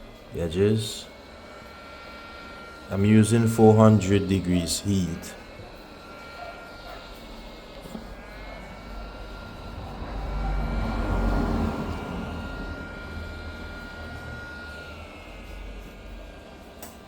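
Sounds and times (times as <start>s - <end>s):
fan high whine: 0.0s - 17.0s.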